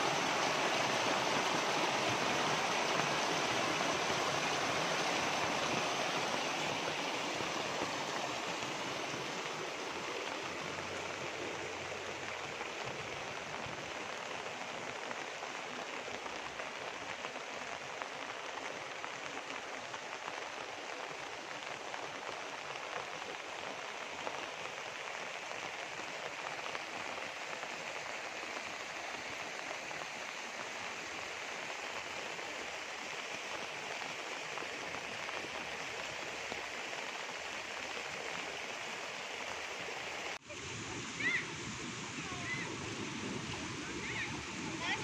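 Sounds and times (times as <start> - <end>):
rain on leaves: 0.0 - 45.0.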